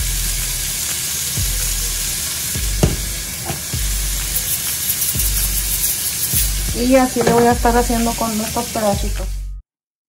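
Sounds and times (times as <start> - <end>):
beef sizzling in a frying pan: 0.0 - 9.5.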